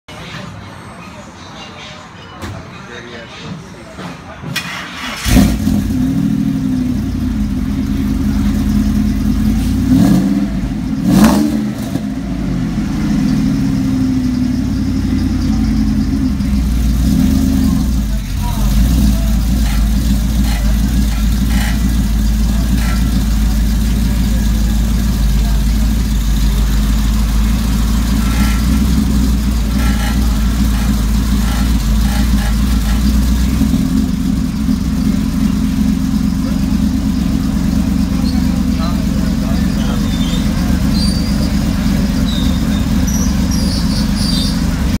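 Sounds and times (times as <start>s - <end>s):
car engine idling and revving: 4.6s - 45.0s.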